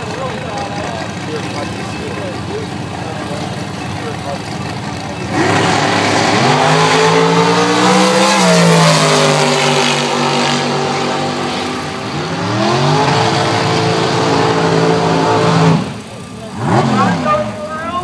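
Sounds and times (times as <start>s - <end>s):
dragster engines accelerating: 0.0s - 18.0s.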